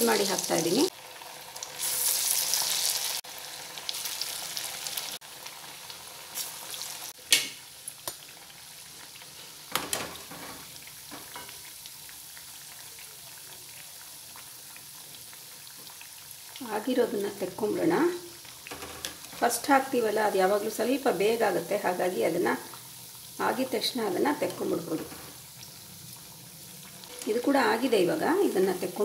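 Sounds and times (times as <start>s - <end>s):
batter sizzling in hot oil: 0.0s - 29.0s.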